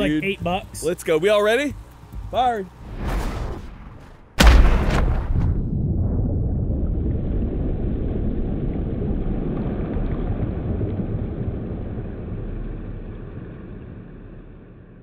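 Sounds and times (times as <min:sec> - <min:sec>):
low muffled rumbling: 0:02.2 - 0:15.0.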